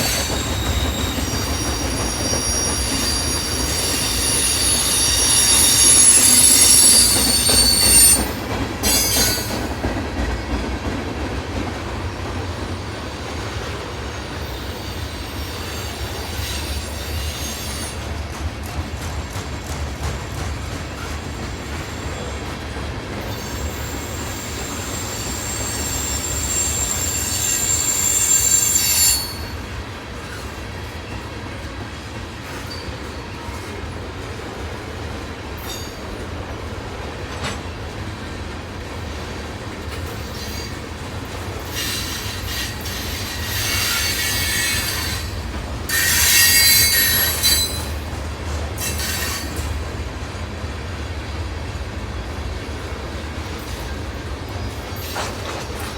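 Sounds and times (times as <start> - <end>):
freight train rumbling past: 0.0 - 55.9
train wheels squealing on rails: 0.0 - 55.9.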